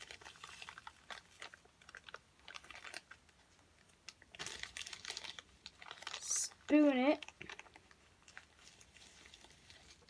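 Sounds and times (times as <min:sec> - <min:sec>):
powder crunching in plastic bag: 0:00.0 - 0:10.0.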